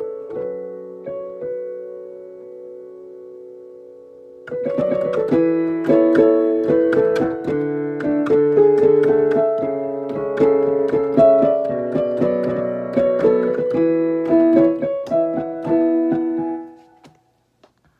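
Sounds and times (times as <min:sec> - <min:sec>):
piano melody: 0:00.0 - 0:17.6.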